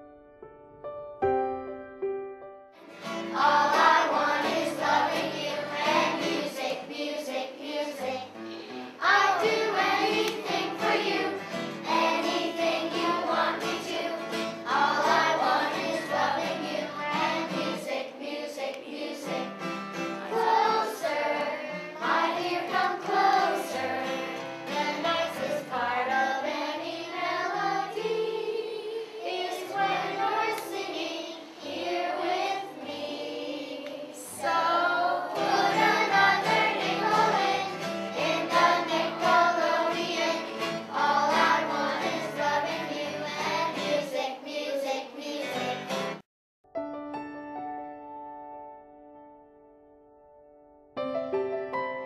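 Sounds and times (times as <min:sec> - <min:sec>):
musical backing: 0:00.0 - 0:44.6, 0:46.8 - 0:52.0
children singing together: 0:02.9 - 0:46.2.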